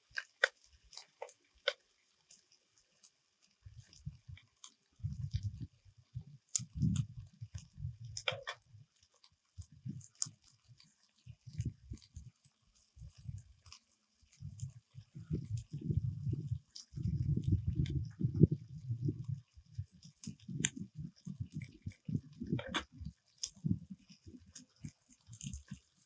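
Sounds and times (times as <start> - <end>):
chewing and biting crunches: 0.0 - 26.0.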